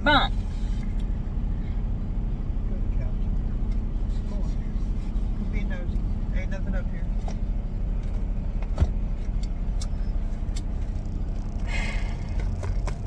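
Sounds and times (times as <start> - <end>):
truck engine drone: 0.0 - 13.0.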